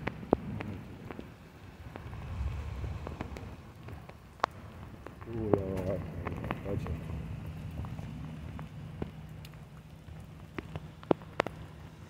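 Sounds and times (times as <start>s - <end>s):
rain on wet asphalt: 0.0s - 12.0s.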